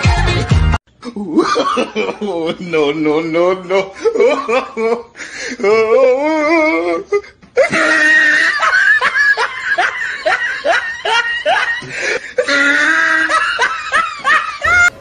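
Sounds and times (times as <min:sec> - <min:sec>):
person laughing: 0:01.0 - 0:14.9.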